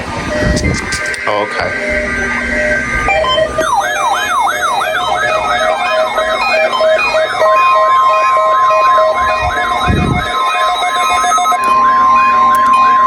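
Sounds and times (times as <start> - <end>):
electronic siren alert sweep: 0.0 - 13.0
high warning alarm tone: 0.0 - 13.0.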